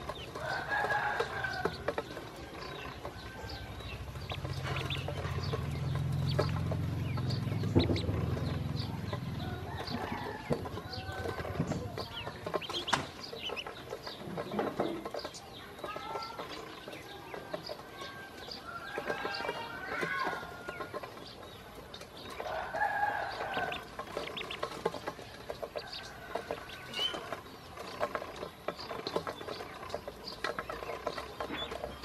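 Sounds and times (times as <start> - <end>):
ducklings peeping: 0.0 - 32.0.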